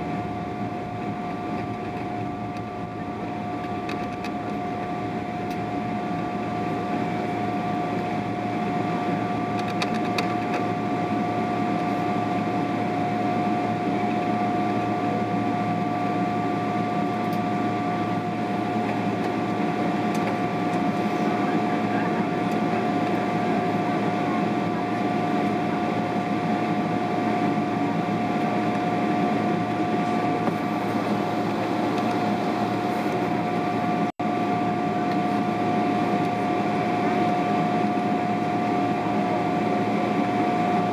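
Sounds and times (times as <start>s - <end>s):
airplane cabin drone: 0.0s - 40.9s
steady whine: 0.0s - 40.9s.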